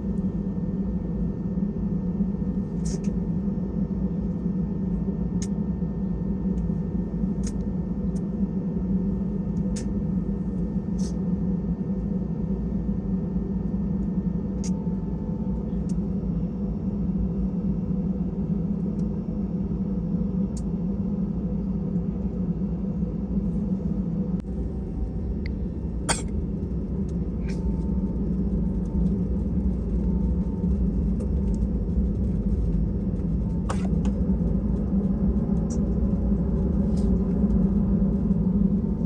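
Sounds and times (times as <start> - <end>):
aircraft cabin rumble: 0.0 - 39.0.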